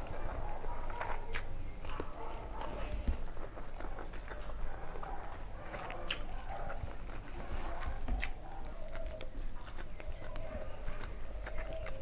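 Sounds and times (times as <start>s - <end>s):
chewing and wet mouth sounds: 0.0s - 12.0s.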